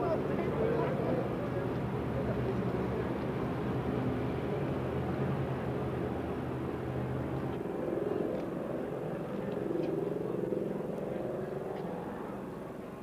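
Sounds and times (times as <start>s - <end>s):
outdoor crowd noise: 0.0s - 13.0s
street noise: 0.0s - 13.0s.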